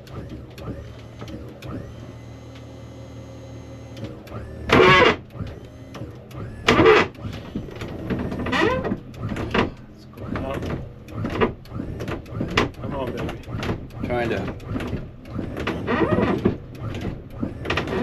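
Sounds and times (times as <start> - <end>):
electric pump hum: 0.0 - 18.0
loud harsh mechanical noises: 0.0 - 18.0.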